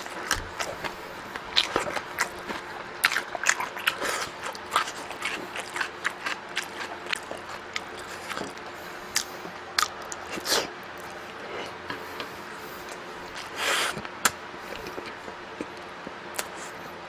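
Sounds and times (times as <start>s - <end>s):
chewing and mouth smacks: 0.0s - 11.8s, 12.8s - 16.8s.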